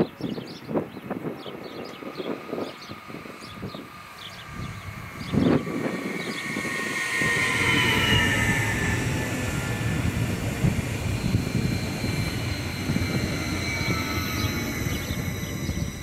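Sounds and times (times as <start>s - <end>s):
train motor whine: 0.0s - 16.0s
wheel-on-rail rumble: 0.6s - 16.0s.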